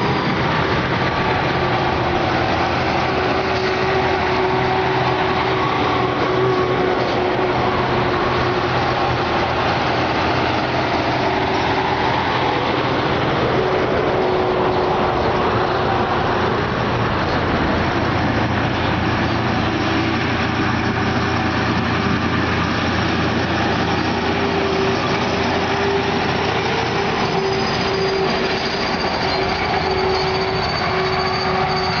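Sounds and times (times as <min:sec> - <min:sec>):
tractor diesel engines whining: 0:00.0 - 0:32.0.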